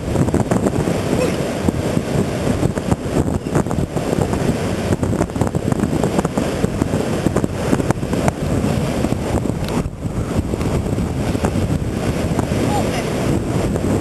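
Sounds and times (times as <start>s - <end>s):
surf washing: 0.0s - 14.0s
wind buffeting microphone: 0.0s - 14.0s.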